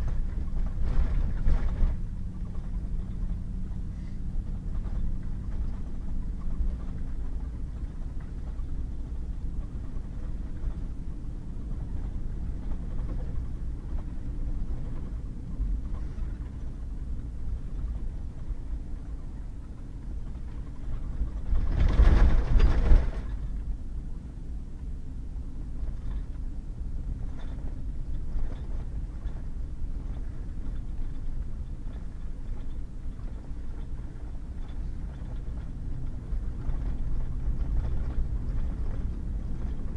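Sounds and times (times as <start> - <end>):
truck driving on gravel road: 0.0 - 39.9.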